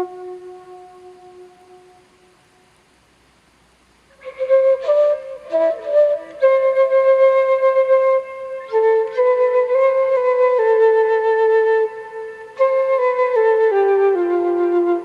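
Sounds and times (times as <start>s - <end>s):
solo flute melody: 0.0s - 2.7s, 4.1s - 15.0s.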